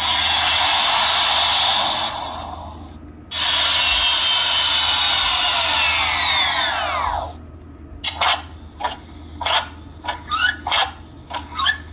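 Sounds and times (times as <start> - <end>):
airplane engine sound effects: 0.0 - 11.9.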